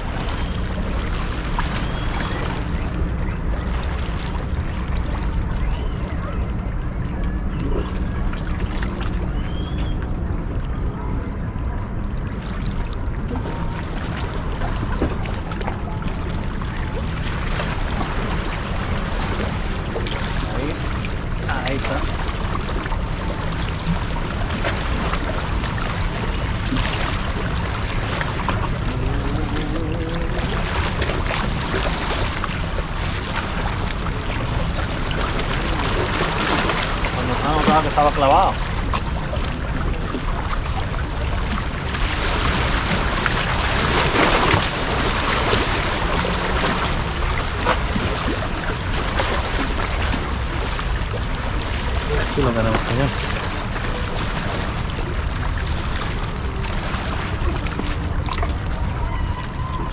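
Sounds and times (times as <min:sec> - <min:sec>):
sea water splashing on shore: 0:00.0 - 0:06.9, 0:12.2 - 0:59.9
low rumble: 0:00.0 - 0:59.9.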